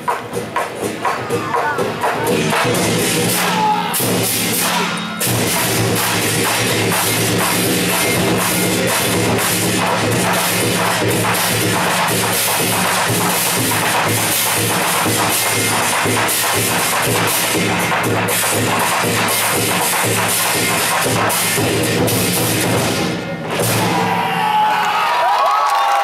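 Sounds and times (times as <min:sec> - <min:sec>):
barrel drums beating: 0:00.0 - 0:24.2.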